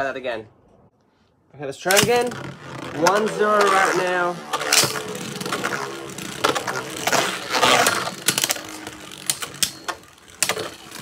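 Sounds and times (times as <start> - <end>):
spinning tops whirring and scraping: 1.8 - 11.0.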